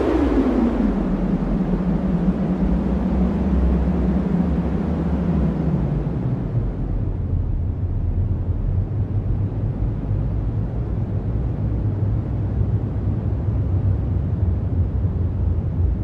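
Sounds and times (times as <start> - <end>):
strong wind rumbling: 0.0 - 16.0.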